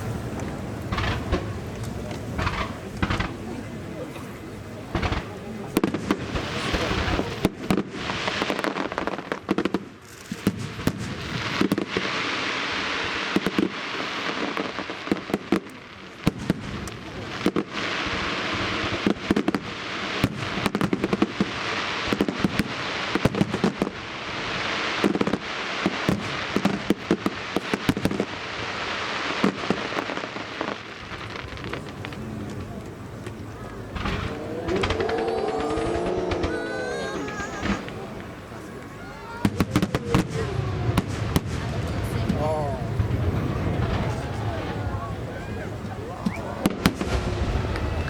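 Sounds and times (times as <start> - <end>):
firework bangs: 0.0 - 48.0
fireworks crackling and hissing: 0.0 - 48.0.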